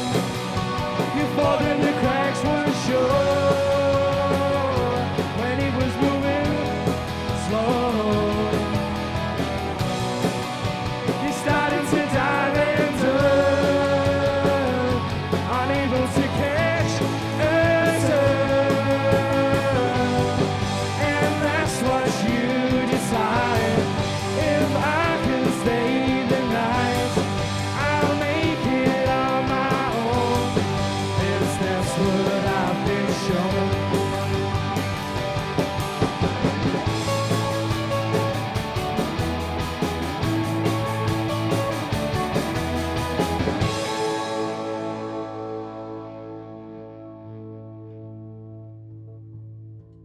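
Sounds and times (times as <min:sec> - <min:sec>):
pop-rock band playing: 0:00.0 - 0:48.7.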